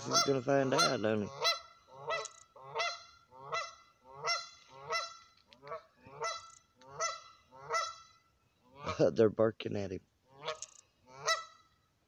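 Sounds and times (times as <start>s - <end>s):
geese honking: 0.0s - 9.0s, 10.2s - 11.8s.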